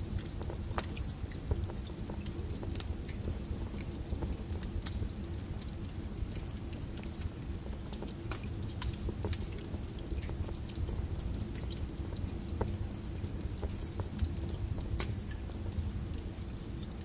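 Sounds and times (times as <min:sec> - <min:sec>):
fireplace flames rumbling: 0:00.0 - 0:17.0
logs crackling and popping: 0:00.0 - 0:17.0.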